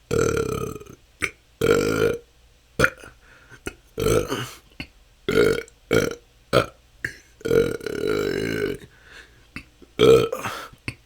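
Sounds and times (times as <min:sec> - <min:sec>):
person burping: 0:00.1 - 0:02.2, 0:02.8 - 0:08.9, 0:09.6 - 0:11.0.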